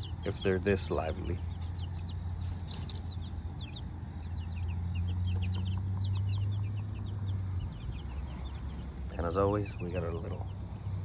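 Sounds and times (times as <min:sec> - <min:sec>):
chicks peeping: 0:00.0 - 0:11.0
steady low hum: 0:00.0 - 0:11.0.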